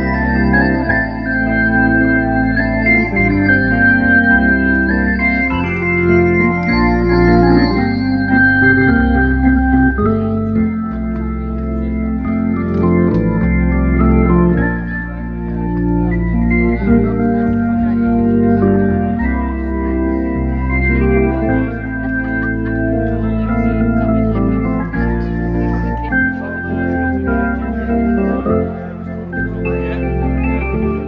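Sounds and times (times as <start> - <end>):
organ playing sustained chords: 0.0 - 31.0.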